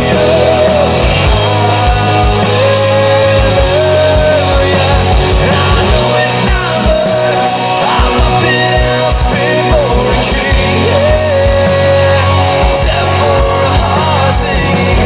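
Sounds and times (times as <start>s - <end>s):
distorted guitars: 0.0s - 15.0s
live rock band playing: 0.0s - 15.0s.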